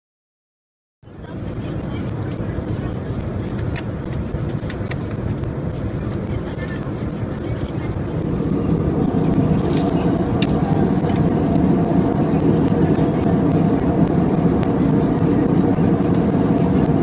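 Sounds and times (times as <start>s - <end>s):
airplane cabin airflow and engine hum: 1.0s - 17.0s.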